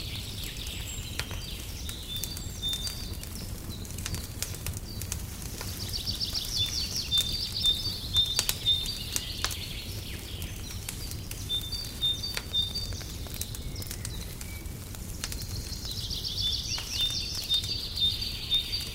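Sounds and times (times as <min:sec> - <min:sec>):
wood fire crackling: 0:00.0 - 0:18.9.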